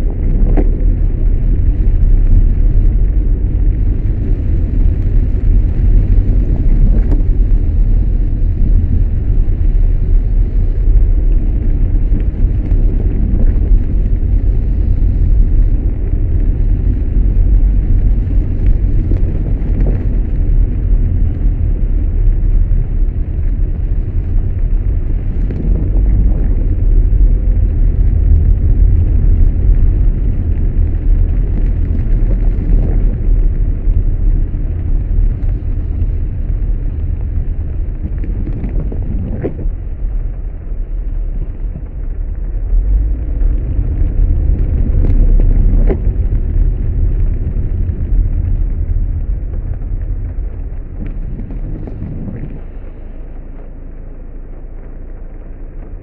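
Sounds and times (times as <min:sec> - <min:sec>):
car engine and tyre noise: 0:00.0 - 0:56.0
rain and water on car body: 0:00.1 - 0:56.0.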